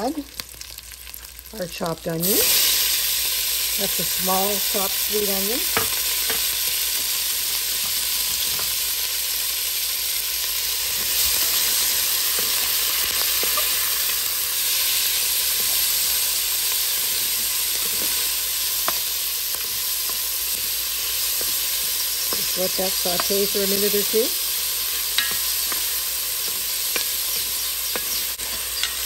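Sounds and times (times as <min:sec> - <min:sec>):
onion and bacon sizzling: 0:00.0 - 0:29.0.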